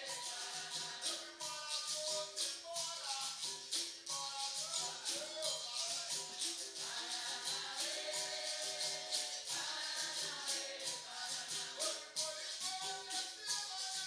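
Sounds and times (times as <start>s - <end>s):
chorus of voices singing: 0.0s - 14.0s
shaker rattle: 0.0s - 14.0s
tambourine jingles: 0.0s - 14.0s.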